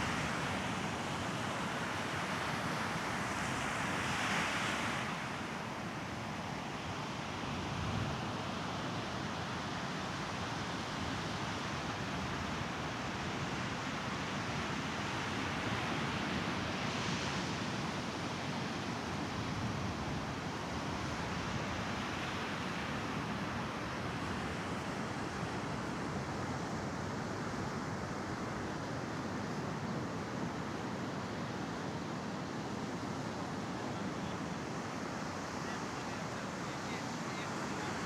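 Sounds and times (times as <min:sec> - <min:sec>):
waves washing onto beach: 0:00.0 - 0:38.0.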